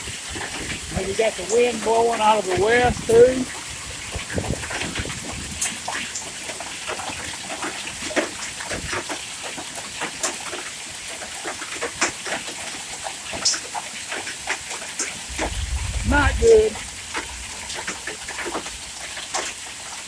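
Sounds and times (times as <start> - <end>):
hail hissing: 0.0 - 20.0.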